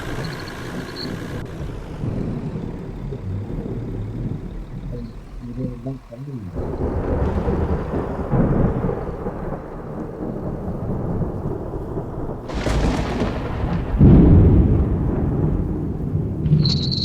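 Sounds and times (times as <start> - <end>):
thunder rumbling: 0.0 - 17.0
sharp thunder crack: 1.4 - 17.0.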